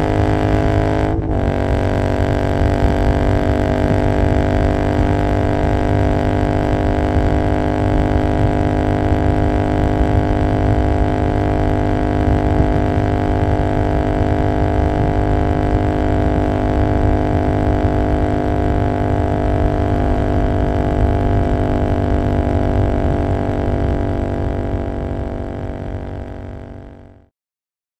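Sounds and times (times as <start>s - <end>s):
motorcycle engine droning: 0.0s - 27.3s.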